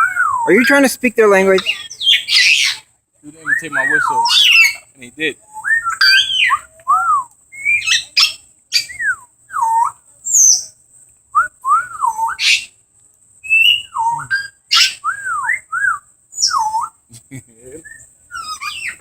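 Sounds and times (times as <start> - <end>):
parrot chirps: 0.0 - 4.9, 5.5 - 10.7, 11.9 - 12.8, 13.4 - 17.0, 17.9 - 19.0.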